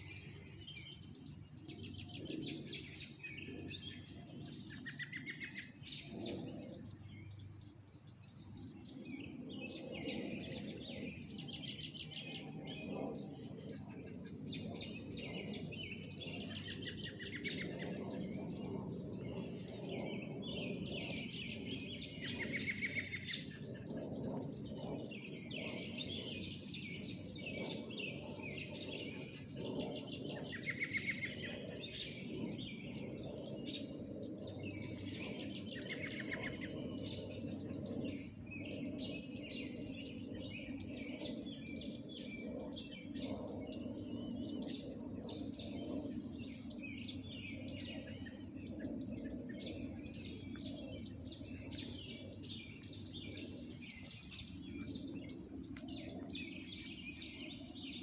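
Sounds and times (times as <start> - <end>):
rapid bird trills: 0.0 - 58.0
songbirds chirping and singing: 0.0 - 58.0.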